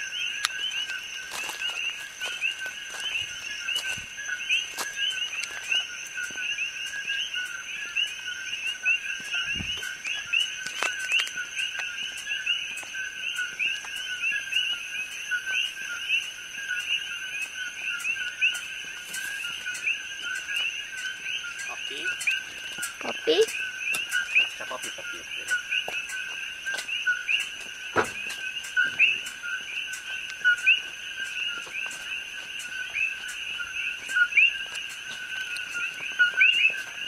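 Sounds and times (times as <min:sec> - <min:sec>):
chorus of frogs calling: 0:00.0 - 0:37.0.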